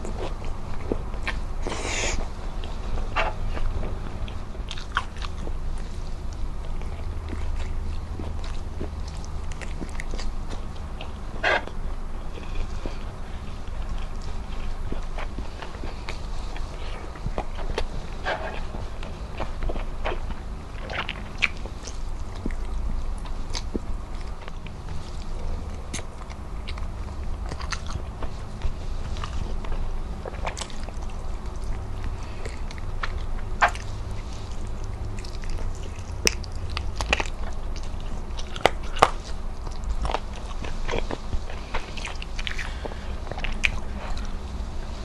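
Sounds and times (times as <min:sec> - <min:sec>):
person chewing food: 0:00.0 - 0:45.0.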